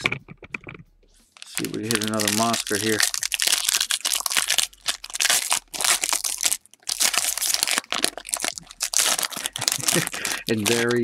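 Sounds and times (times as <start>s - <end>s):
wrappers crinkling and tearing: 1.3s - 11.0s.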